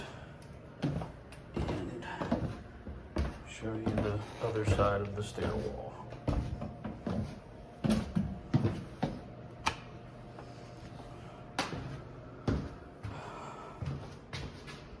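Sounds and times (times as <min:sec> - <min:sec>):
footsteps going down stairs: 0:00.0 - 0:09.4, 0:10.8 - 0:15.0.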